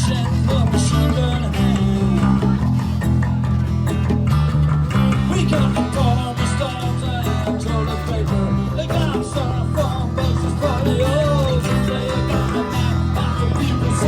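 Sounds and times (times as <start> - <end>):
bass: 0.0 - 14.0
strummed acoustic guitar: 0.0 - 14.0.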